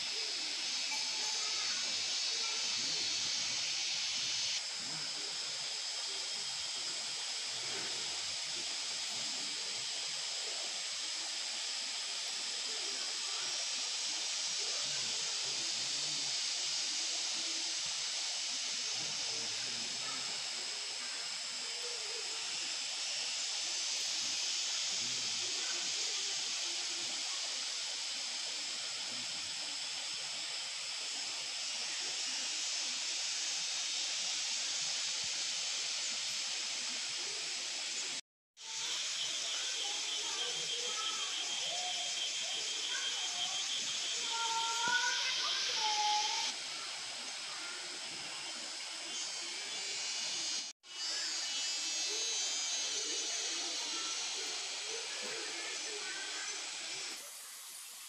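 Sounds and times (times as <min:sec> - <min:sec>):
high-pitched outdoor hiss: 0:00.0 - 0:58.0.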